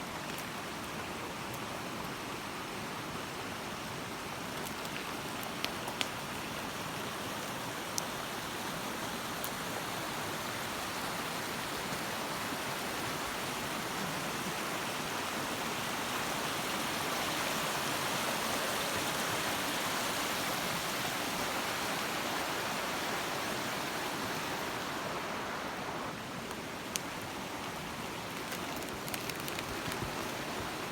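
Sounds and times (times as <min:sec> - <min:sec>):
rushing water: 0:00.0 - 0:30.9.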